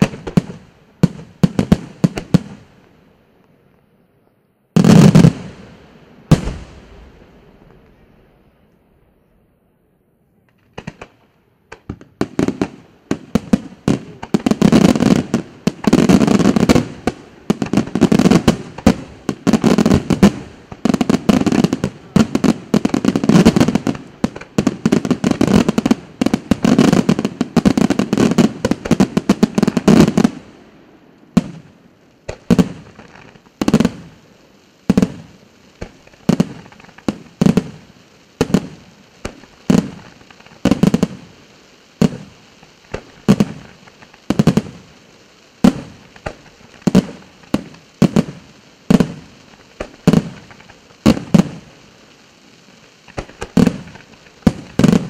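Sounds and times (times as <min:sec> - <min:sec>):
firework bangs: 0:00.0 - 0:02.8, 0:04.7 - 0:08.4, 0:10.5 - 0:55.0
firework shell bursts and crackling: 0:00.0 - 0:02.8, 0:10.4 - 0:55.0.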